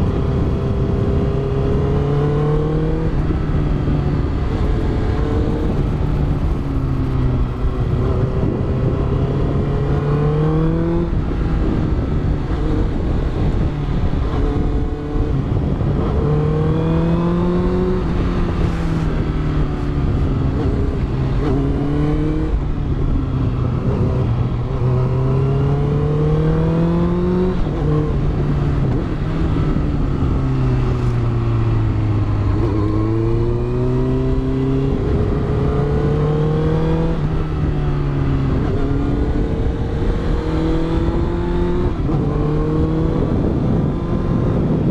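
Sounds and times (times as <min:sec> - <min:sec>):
motorcycle engine revving: 0:00.0 - 0:44.9
wind noise: 0:00.0 - 0:44.9.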